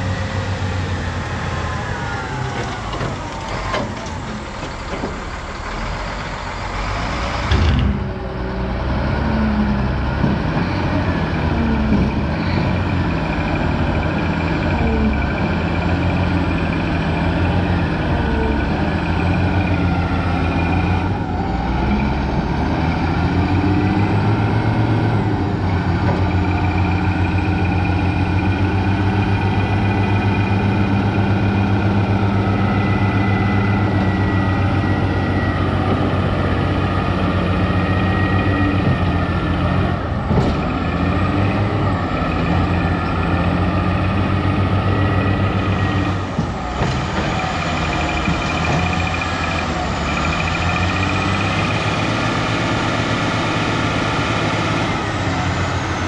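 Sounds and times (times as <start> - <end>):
wheel loader diesel engine running: 0.0 - 56.0.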